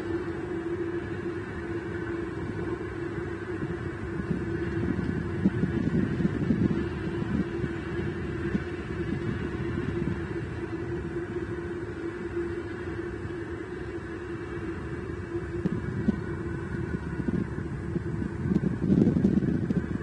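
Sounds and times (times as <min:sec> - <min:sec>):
steady low hum: 0:00.0 - 0:20.0
wind buffeting microphone: 0:00.0 - 0:20.0.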